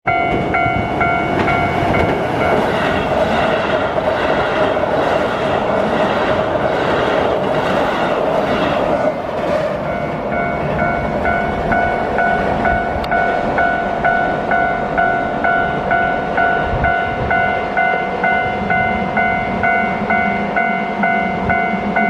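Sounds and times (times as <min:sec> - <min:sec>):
train rumbling on bridge: 0:00.0 - 0:22.0
train wheels clattering on rails: 0:00.1 - 0:22.0.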